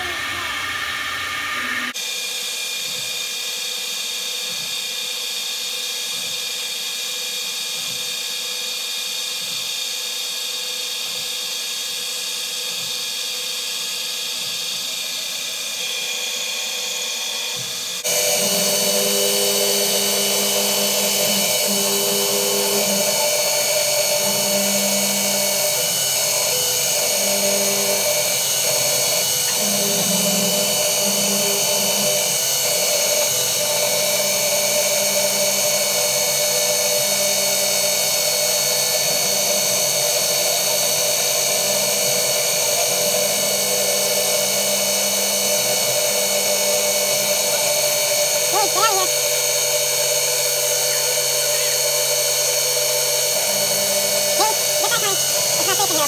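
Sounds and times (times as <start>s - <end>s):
milling machine whine and cutting: 0.0s - 56.0s.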